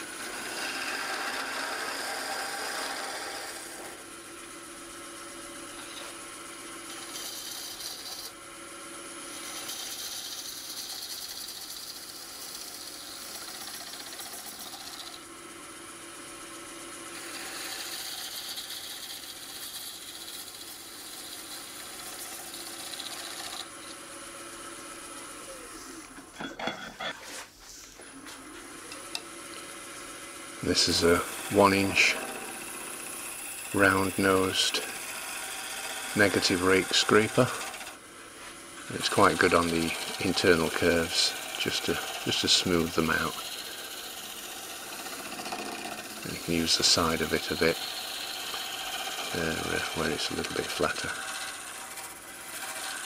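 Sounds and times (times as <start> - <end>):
turning tool cutting wood: 0.0 - 26.8, 28.2 - 53.0
wood lathe humming: 0.0 - 26.9, 28.0 - 53.0.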